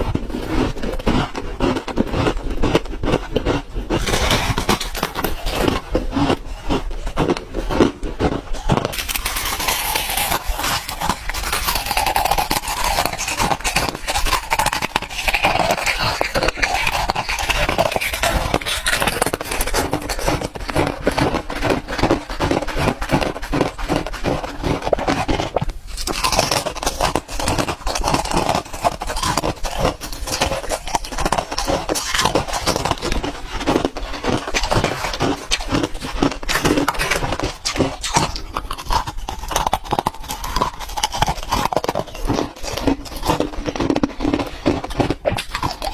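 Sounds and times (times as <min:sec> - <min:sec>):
ice cubes crunched by teeth: 0:00.0 - 0:45.9.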